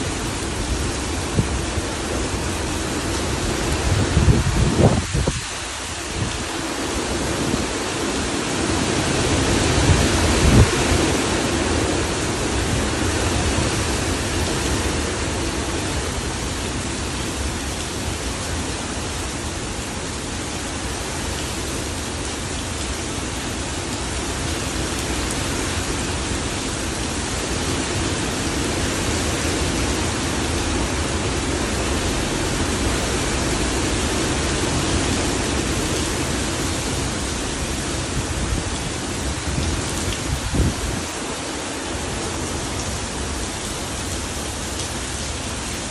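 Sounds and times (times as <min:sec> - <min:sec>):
wind and heavy rain rushing: 0:00.0 - 0:45.9.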